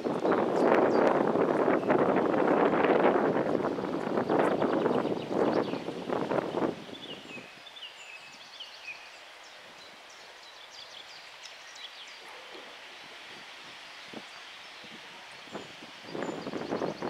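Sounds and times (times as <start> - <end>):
wind buffeting microphone: 0.0 - 8.8, 12.2 - 17.0
songbirds singing: 0.0 - 17.0.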